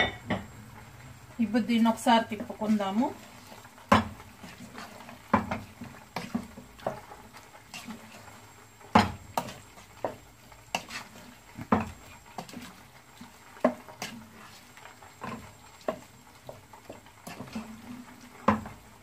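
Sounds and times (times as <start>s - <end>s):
curry sizzling: 0.0s - 19.0s
spatula scraping and knocking pot: 2.4s - 19.0s.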